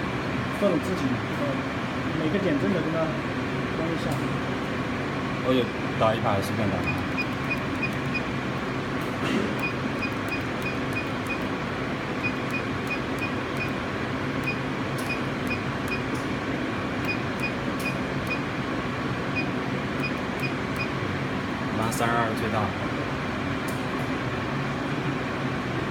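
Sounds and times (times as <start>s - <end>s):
printer mechanical hum: 0.0s - 25.9s.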